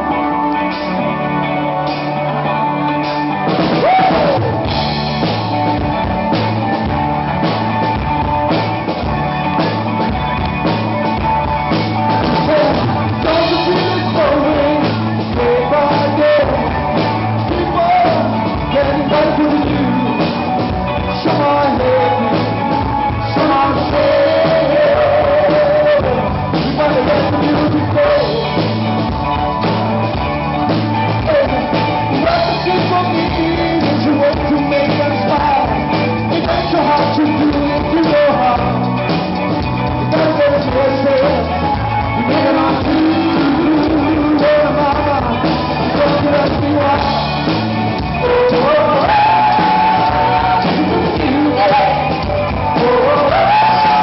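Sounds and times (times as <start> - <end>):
live rock band playing: 0.0 - 54.0
man singing lead: 0.0 - 54.0.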